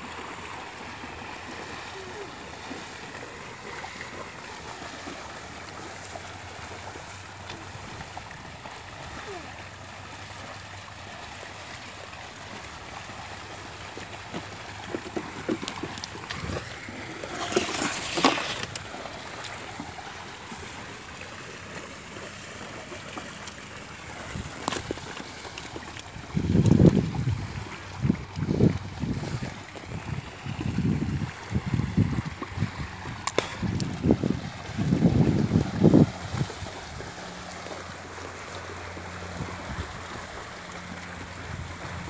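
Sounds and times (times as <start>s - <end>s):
buffalo splashing through water: 0.0s - 42.0s.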